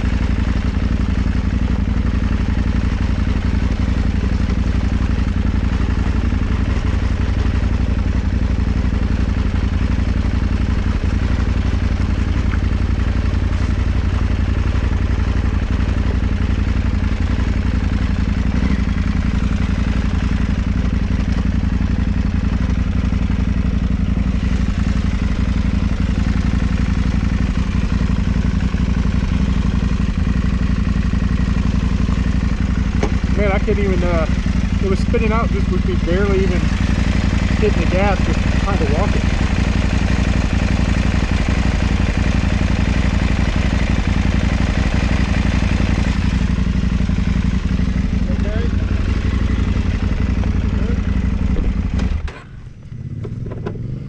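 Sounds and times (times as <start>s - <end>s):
motorcycle engine running at low revs: 0.0s - 54.0s.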